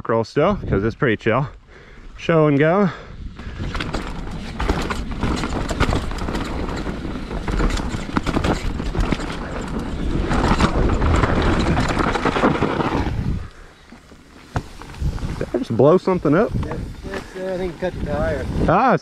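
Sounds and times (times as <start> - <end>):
mountain bike rattling: 1.7 - 18.8
tyres rumbling on dirt: 2.3 - 18.8.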